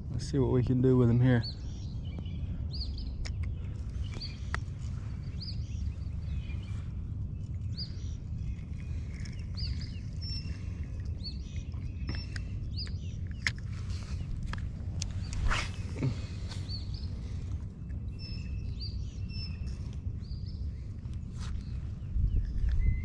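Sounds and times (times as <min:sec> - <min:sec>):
birds chirping: 0:00.0 - 0:23.0
wind on microphone: 0:01.4 - 0:23.0.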